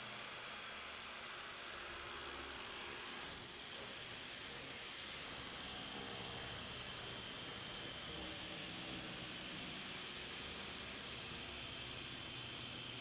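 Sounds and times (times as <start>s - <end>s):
circular saw cutting foam: 0.0s - 13.0s.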